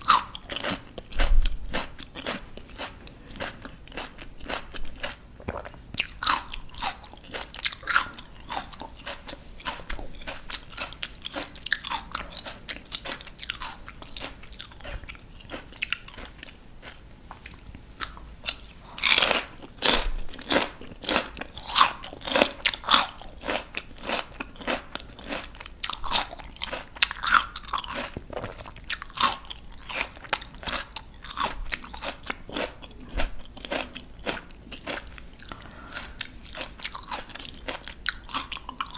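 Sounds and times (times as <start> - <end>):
crunching raw vegetables: 0.0 - 38.9.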